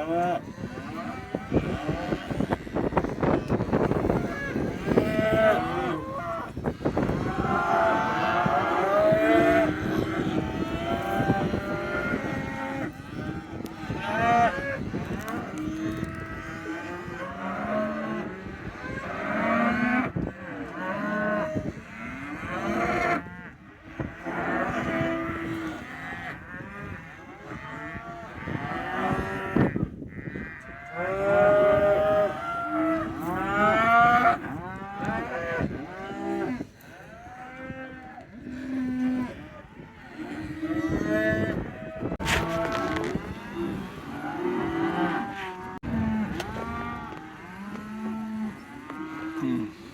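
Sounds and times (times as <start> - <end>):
cattle mooing and bellowing: 0.0 - 49.9.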